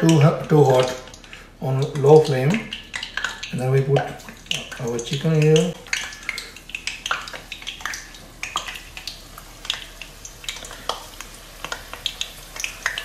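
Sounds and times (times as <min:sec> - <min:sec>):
chicken frying in sizzling oil: 0:00.0 - 0:13.0.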